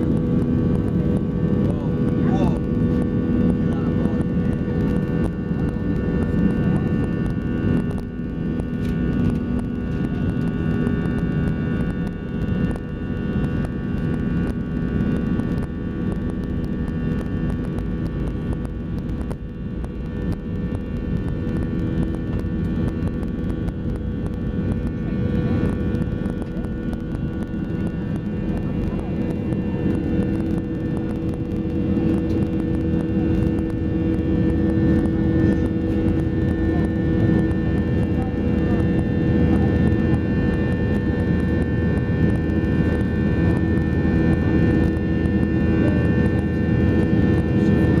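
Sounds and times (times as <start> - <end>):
jet engines running: 0.0 - 48.0.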